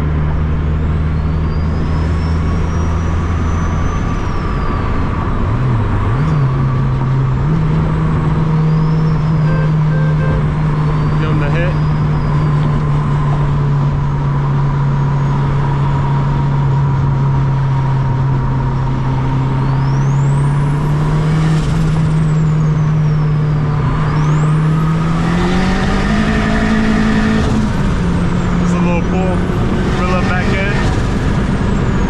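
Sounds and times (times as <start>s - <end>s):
car engine running hard: 0.0s - 32.0s
road noise: 0.0s - 32.0s.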